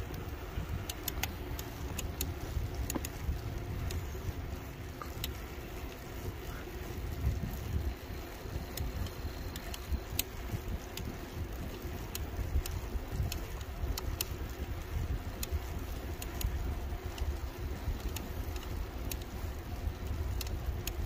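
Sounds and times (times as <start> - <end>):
electric bike rolling rumble: 0.0 - 21.0
wind buffeting microphone: 0.0 - 21.0.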